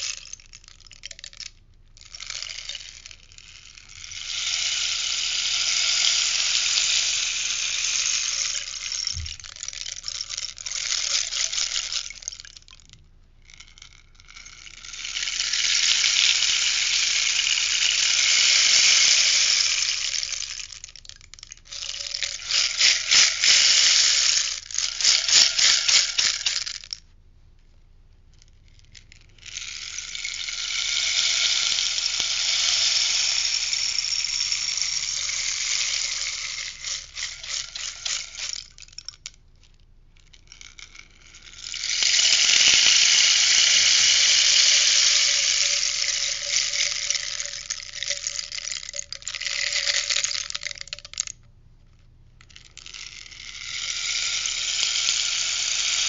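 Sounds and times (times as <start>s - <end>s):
rainstick pellets cascading: 0.0s - 27.0s, 28.6s - 39.4s, 40.3s - 51.4s, 52.4s - 56.0s
rainstick shaken rattling: 0.0s - 27.1s, 28.3s - 51.5s, 52.4s - 56.0s.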